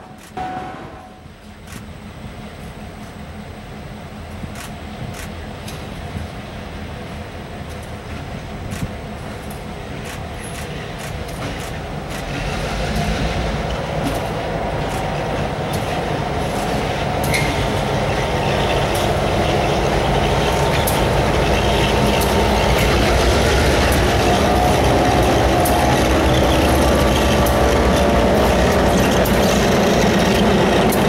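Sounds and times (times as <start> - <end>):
sharp clicks from train: 0.0 - 3.4, 4.3 - 6.6, 7.4 - 31.0
diesel locomotive engines passing: 0.0 - 31.0.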